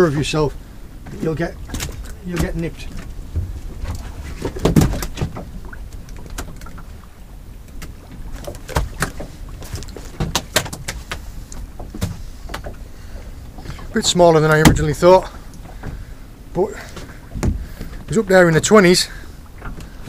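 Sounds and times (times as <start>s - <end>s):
wind and sea rumble: 0.0s - 20.0s
knocks and clicks on a boat: 1.0s - 18.9s, 19.5s - 20.0s.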